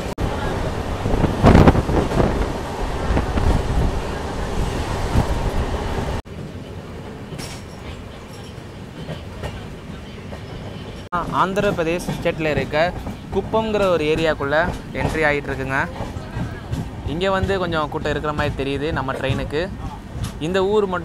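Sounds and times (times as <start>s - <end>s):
train coaches rumbling and rattling: 0.0s - 21.0s.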